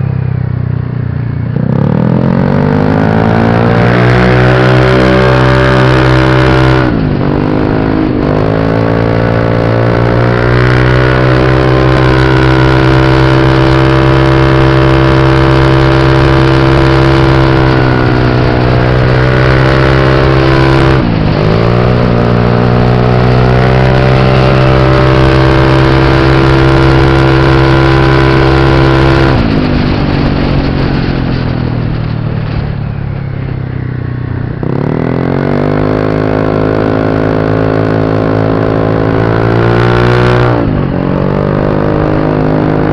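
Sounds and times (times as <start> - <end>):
motorbike engine at high revs: 0.8 - 31.5, 34.3 - 42.9.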